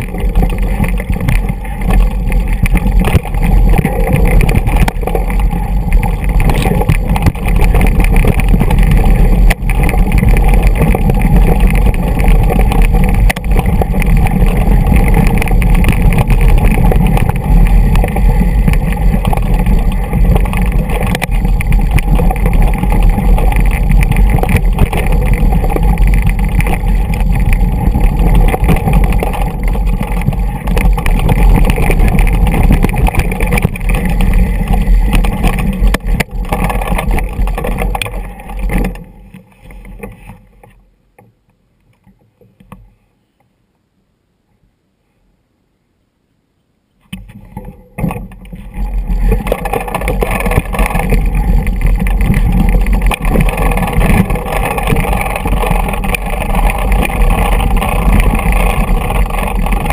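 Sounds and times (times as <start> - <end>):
bike knocking on stones: 0.0 - 40.8, 47.1 - 59.9
bike rattling: 0.0 - 40.8, 47.0 - 59.9
wind and rolling tyre rumble: 0.0 - 43.0, 47.0 - 59.9.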